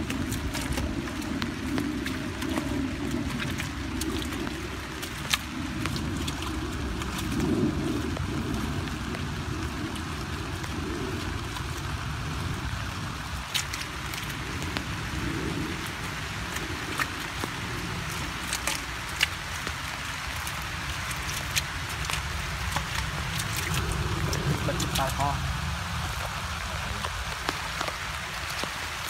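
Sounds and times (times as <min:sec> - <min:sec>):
hand scooping mud and water: 0:00.0 - 0:29.0
wind rumbling on microphone: 0:00.0 - 0:29.0.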